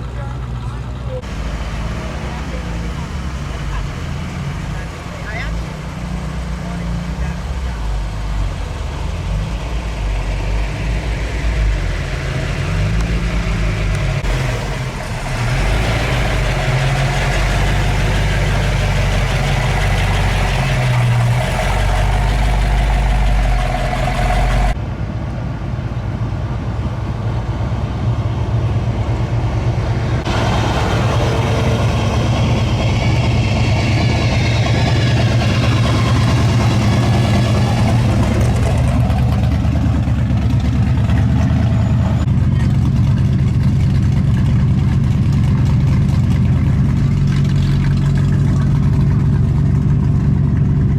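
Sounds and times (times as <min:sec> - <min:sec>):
car engines idling: 0:00.0 - 0:50.9.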